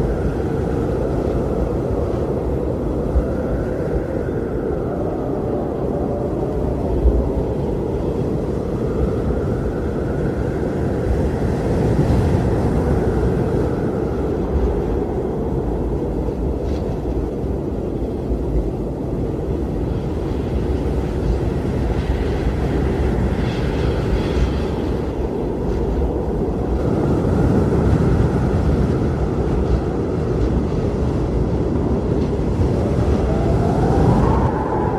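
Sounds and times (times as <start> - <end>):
blizzard wind rumbling: 0.0 - 34.9
howling wind whistle: 0.0 - 34.9.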